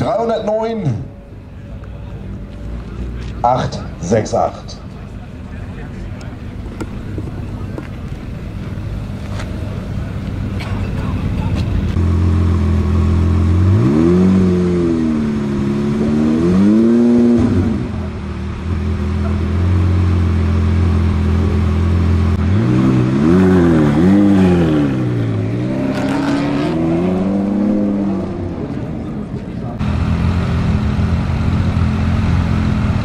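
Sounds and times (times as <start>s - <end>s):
sports car engine idling and revving: 0.0s - 33.0s.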